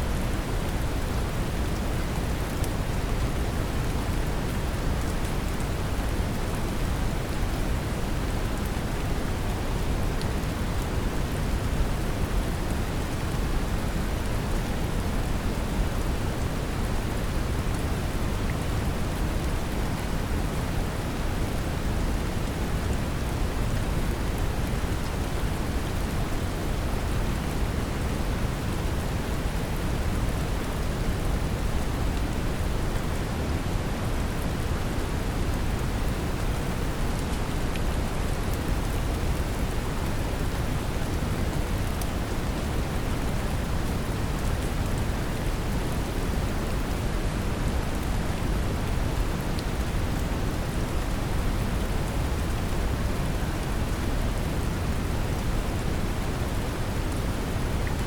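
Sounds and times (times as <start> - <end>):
brown noise rumbling hiss: 0.0 - 58.0
gentle rain pattering: 0.0 - 58.0.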